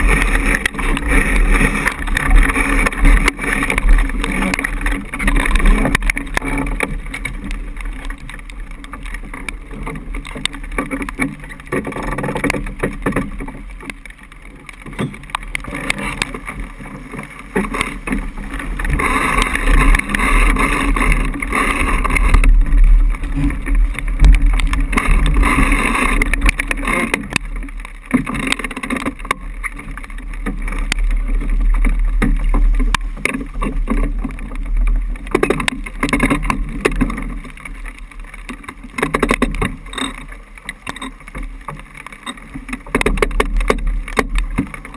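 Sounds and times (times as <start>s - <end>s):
water rushing along boat hull: 0.0s - 44.9s
wind rumbling on microphone: 0.0s - 44.9s.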